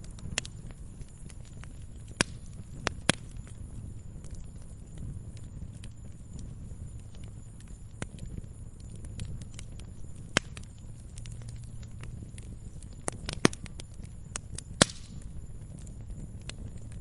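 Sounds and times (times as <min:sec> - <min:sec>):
low rumble of flames: 0:00.0 - 0:17.0
sharp pops of fire: 0:00.0 - 0:17.0
wood fire crackling: 0:00.0 - 0:17.0.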